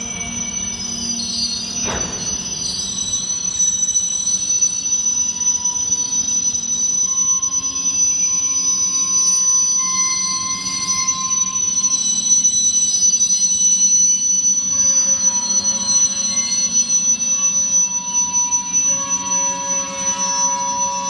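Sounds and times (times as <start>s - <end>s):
train brakes squealing: 0.0s - 21.0s.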